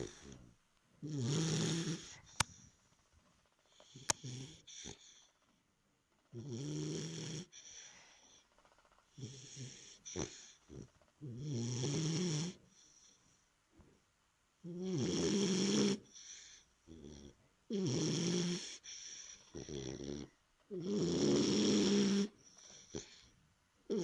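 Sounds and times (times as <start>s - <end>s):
pet snoring: 0.0s - 2.7s, 3.7s - 5.6s, 6.3s - 13.2s, 14.6s - 24.0s
soft breaths: 0.0s - 6.4s, 7.4s - 11.4s, 12.4s - 14.8s, 15.9s - 17.7s, 18.4s - 24.0s.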